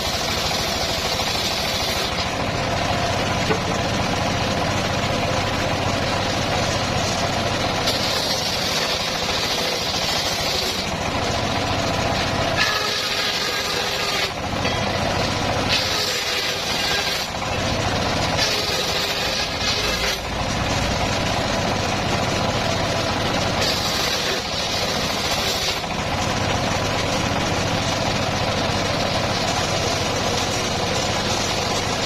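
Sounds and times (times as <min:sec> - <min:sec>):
saw blade cutting logs: 0:00.0 - 0:05.0, 0:05.7 - 0:32.0
sawmill engine running: 0:00.0 - 0:32.0.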